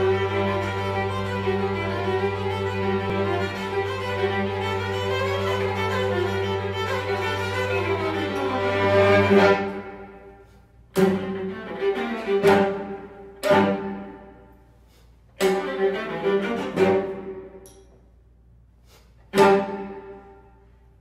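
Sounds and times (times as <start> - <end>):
string quartet bowed chords: 0.0 - 14.6, 15.4 - 17.6, 19.3 - 20.6.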